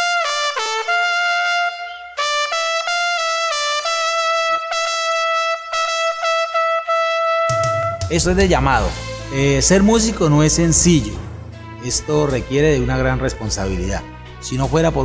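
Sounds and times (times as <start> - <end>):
solo trumpet melody: 0.0 - 10.5, 11.4 - 14.5.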